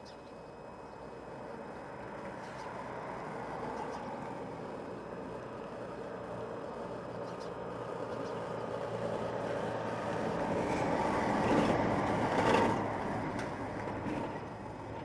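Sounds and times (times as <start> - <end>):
semi truck driving past: 0.5 - 15.0.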